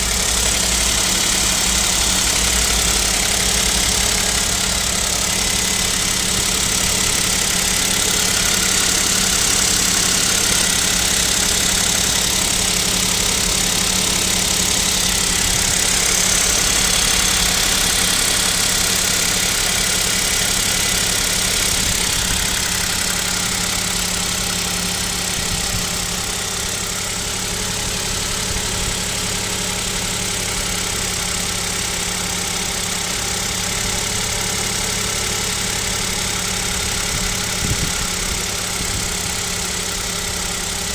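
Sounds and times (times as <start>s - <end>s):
car engine idling: 0.0s - 40.9s
engine knock: 0.0s - 40.9s.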